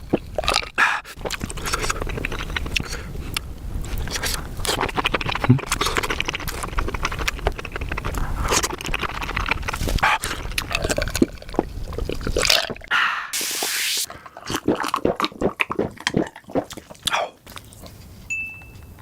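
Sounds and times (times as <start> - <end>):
wet chewing and mouth sounds: 0.0 - 13.4, 14.0 - 18.3.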